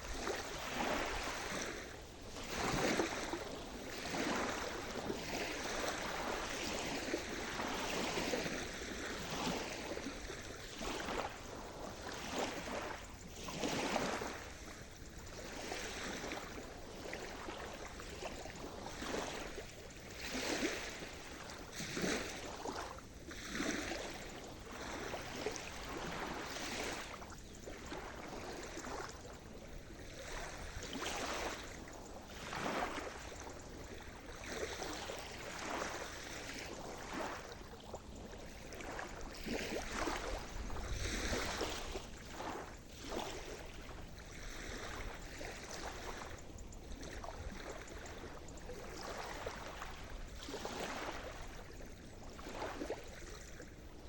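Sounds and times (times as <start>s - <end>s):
small waves breaking: 0.0s - 54.0s.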